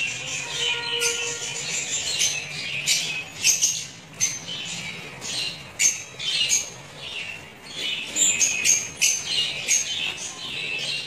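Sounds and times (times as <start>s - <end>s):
lovebirds chattering: 0.0s - 11.0s.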